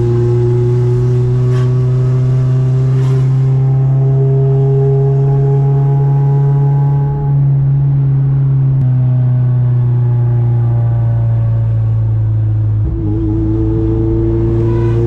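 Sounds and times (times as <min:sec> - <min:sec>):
car engine while driving: 0:00.0 - 0:15.0.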